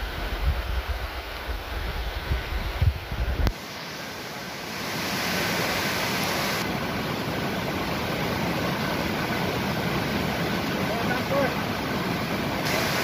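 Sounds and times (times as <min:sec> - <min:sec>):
stream rushing over rocks: 0:00.1 - 0:13.0.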